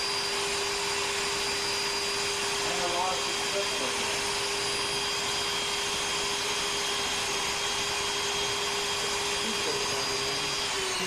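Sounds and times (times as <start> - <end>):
router motor whining: 0.0 - 11.0.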